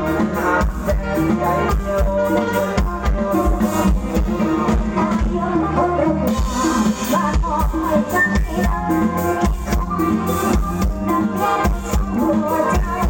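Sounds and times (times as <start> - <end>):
drums steady beat: 0.0 - 13.0
live band playing dance music: 0.0 - 13.0.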